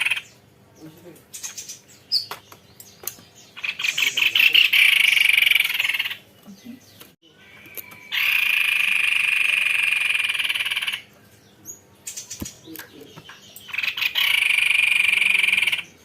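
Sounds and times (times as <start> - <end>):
bird singing rolling trills: 0.0 - 16.0.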